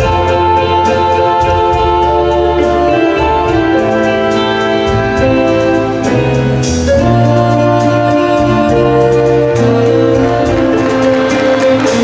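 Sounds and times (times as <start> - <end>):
instrumental music with held chords: 0.0 - 12.0.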